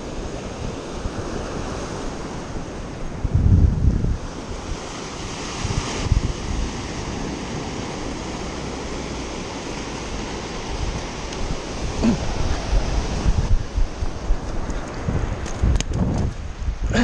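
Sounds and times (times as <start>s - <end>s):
surf breaking on beach: 0.0s - 17.0s
wind buffeting the microphone: 0.0s - 17.0s.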